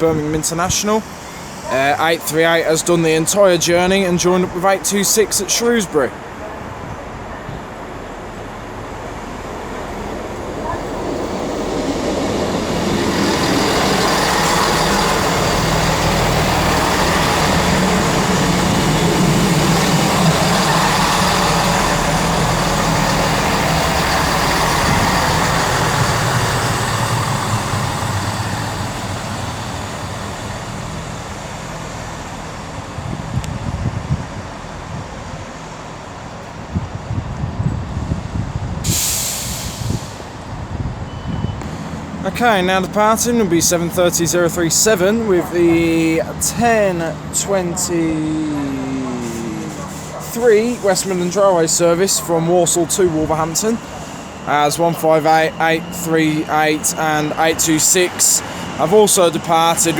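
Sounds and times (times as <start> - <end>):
diesel train engine drone: 0.0 - 59.9
train wheels on rails: 0.0 - 59.9.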